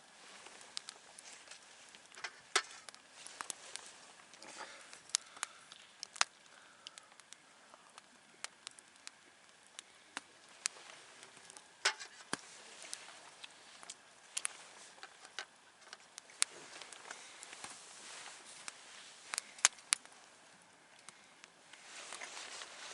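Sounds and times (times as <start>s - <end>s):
campfire crackling: 0.0s - 22.9s.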